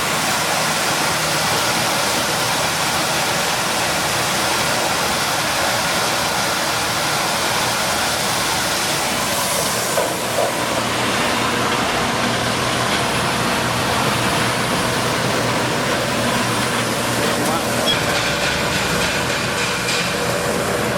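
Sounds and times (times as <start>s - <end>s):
milling machine running: 0.0s - 20.9s.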